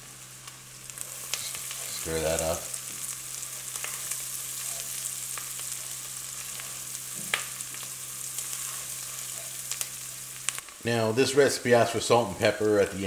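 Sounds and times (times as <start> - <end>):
onions and garlic sizzling: 0.0 - 13.0.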